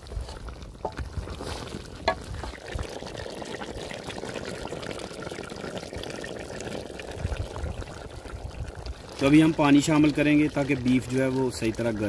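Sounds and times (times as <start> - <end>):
stew bubbling and sizzling: 0.0 - 12.0.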